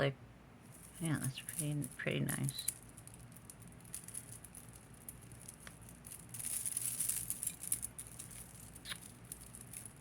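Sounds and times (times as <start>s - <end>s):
necklaces and chains clicking: 0.7s - 10.0s.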